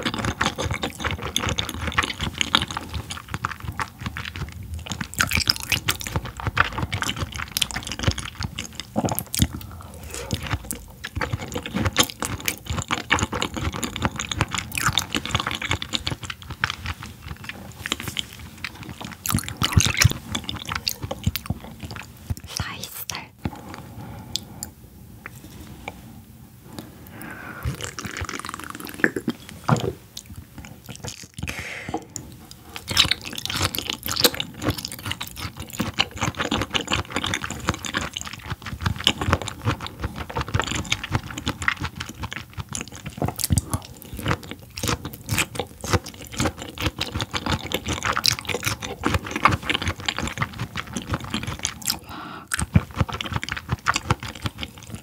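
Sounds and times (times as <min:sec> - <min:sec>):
close chewing mouth clicks: 0:00.0 - 0:26.0, 0:26.8 - 0:55.0.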